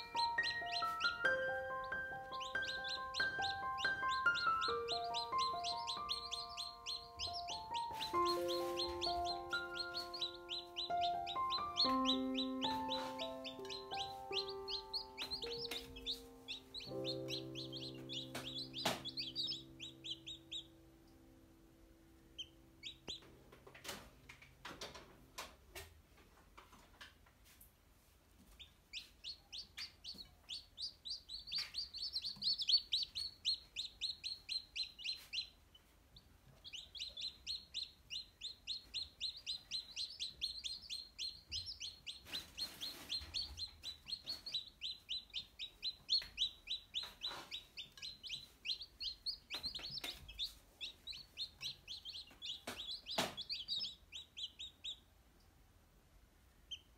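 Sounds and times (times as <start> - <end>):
chicks peeping: 0.0 - 21.6, 22.2 - 25.5, 28.3 - 55.6, 56.5 - 56.9.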